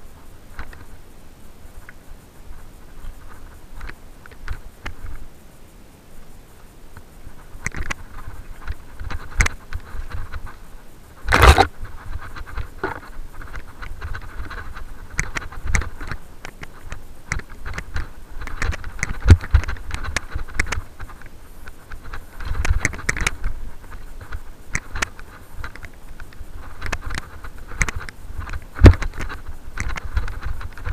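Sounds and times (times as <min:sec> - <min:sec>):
bike rattles and clicks: 0:00.1 - 0:01.0, 0:01.7 - 0:05.2, 0:06.9 - 0:30.9.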